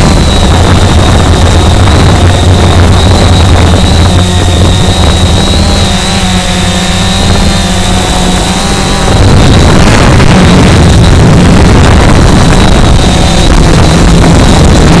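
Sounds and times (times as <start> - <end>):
drone motors humming and whining: 0.0 - 15.0.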